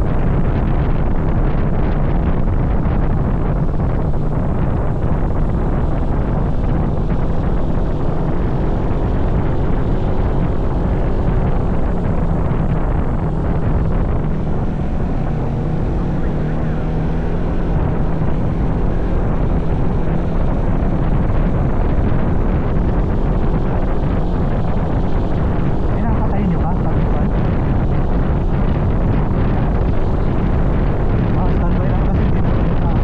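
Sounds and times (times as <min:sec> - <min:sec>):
vehicle engine droning: 0:00.0 - 0:33.0
wind noise on microphone: 0:00.0 - 0:33.0.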